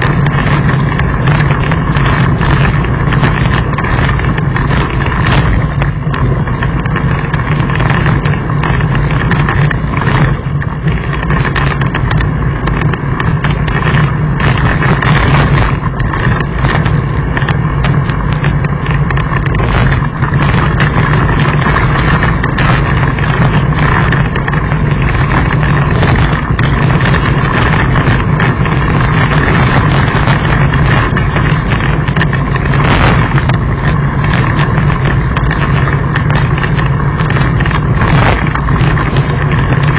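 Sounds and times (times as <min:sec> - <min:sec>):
bike rattling over gravel: 0:00.0 - 0:39.9
wind buffeting microphone: 0:00.0 - 0:39.9.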